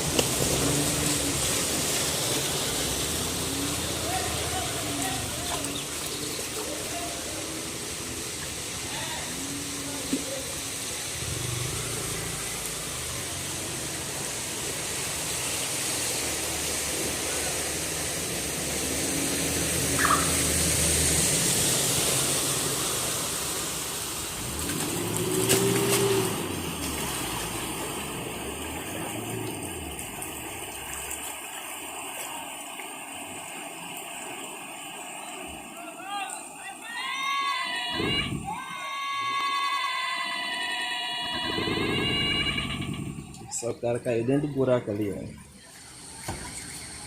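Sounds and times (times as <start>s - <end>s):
rain and water hiss: 0.0s - 47.0s
vehicles passing on flooded street: 0.0s - 47.0s.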